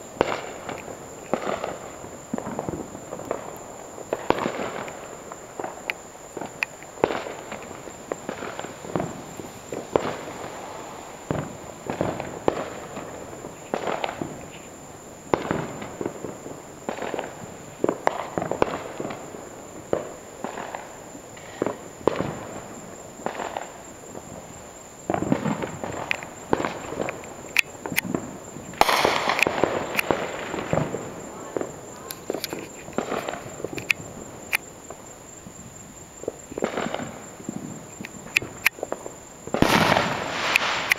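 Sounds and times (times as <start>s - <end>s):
fireworks exploding: 0.0s - 40.9s.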